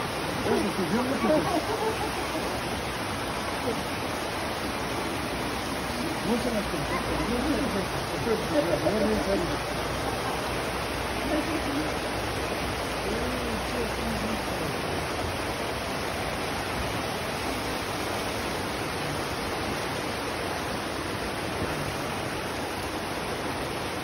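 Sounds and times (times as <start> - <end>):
river rushing over boulders: 0.0 - 24.0.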